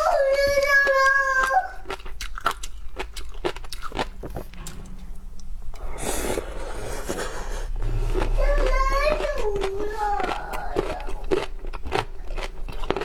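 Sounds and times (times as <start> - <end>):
crunching and chewing seafood: 0.0 - 13.0.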